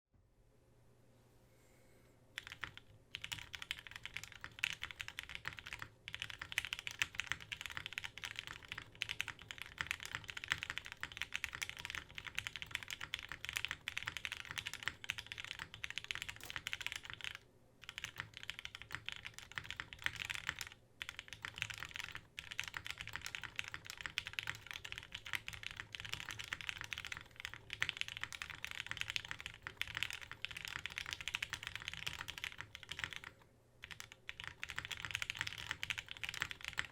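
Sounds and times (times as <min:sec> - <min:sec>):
mechanical keyboard typing: 0:02.4 - 0:36.9.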